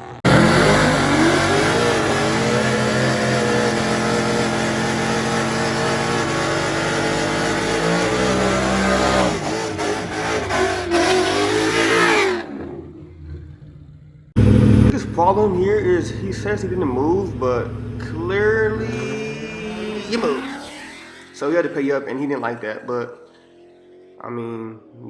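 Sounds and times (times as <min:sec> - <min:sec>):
race car engine accelerating: 0:00.0 - 0:24.2.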